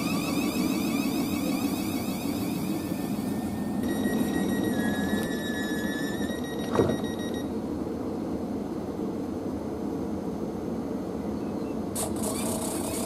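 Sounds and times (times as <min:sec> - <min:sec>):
electric train humming: 0:00.0 - 0:11.3.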